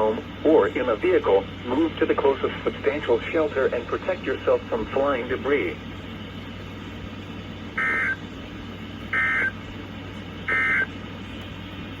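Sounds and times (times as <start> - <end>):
radio receiver low hum: 0.0 - 12.0.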